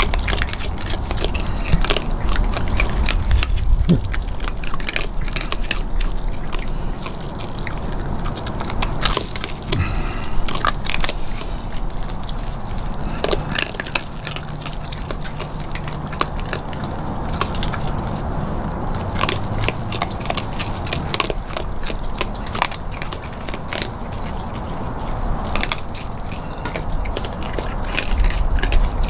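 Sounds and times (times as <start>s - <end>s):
raccoons crunching dry feed: 0.0s - 29.0s.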